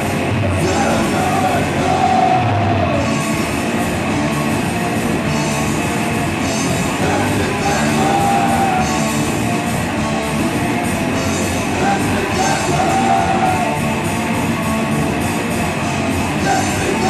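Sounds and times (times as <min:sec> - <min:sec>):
distorted electric guitars: 0:00.0 - 0:17.0
drum kit: 0:00.0 - 0:17.0.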